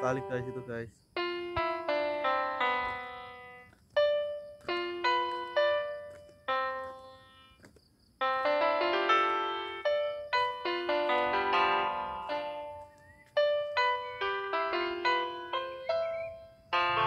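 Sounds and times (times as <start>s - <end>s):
piano music: 0.0s - 7.6s, 8.2s - 17.0s.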